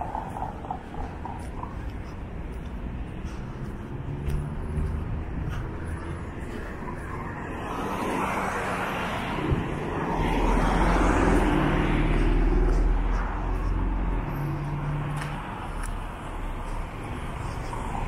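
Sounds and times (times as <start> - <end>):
cars driving along road: 0.0 - 18.0.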